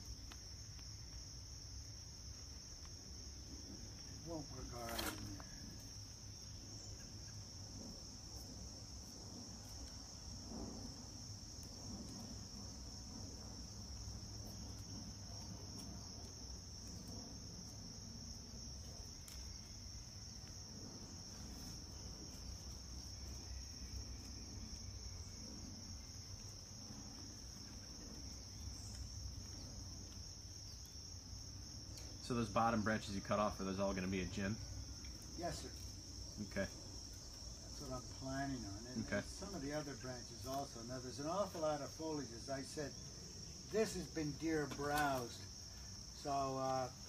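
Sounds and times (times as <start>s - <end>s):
high-pitched insect chorus: 0.0s - 47.0s.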